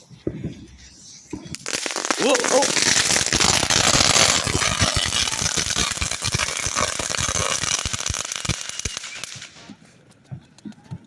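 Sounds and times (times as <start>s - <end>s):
firework crackling pops: 0.0s - 9.8s
hiss: 0.6s - 9.8s.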